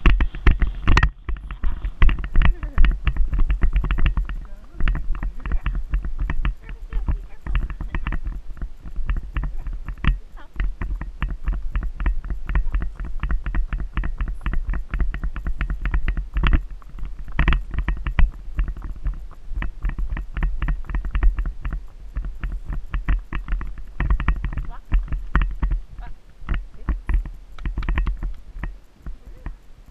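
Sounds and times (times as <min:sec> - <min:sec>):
horse hooves knocking: 0:00.0 - 0:29.9
low wind rumble on microphone: 0:00.0 - 0:29.9.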